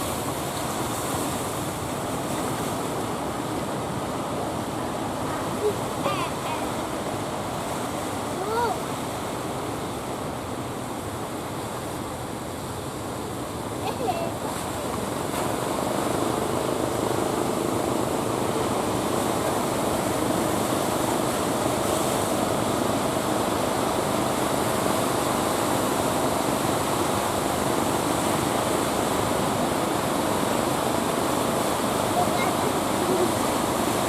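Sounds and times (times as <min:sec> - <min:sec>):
ocean waves breaking: 0:00.0 - 0:34.0.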